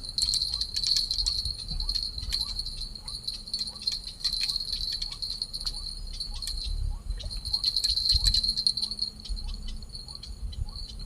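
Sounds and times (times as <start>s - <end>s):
low wind rumble: 0.0s - 11.0s
small bell jingling: 0.0s - 11.0s
steady high-pitched ringing: 0.0s - 11.0s.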